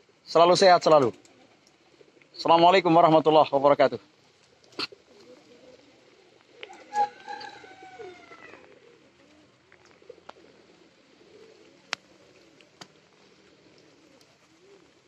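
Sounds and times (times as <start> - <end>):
pigeons cooing: 0.0 - 3.0, 4.0 - 15.0.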